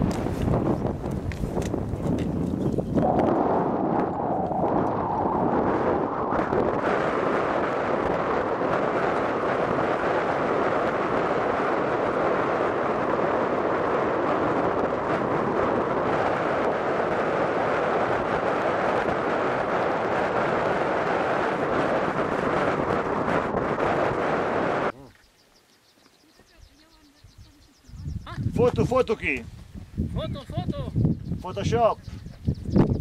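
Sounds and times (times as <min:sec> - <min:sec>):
wind blowing over microphone: 0:00.0 - 0:25.0, 0:26.4 - 0:33.0.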